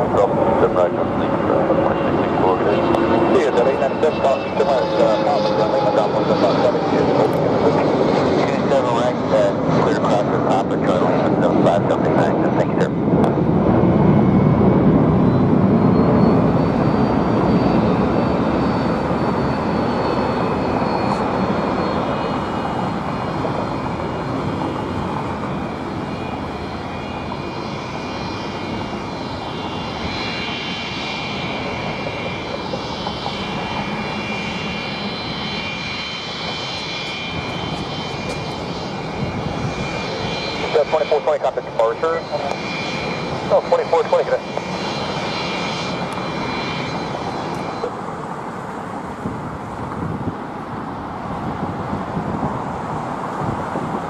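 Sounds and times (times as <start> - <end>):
high engine whine: 0.0 - 54.0
jet engine rush: 0.0 - 54.0.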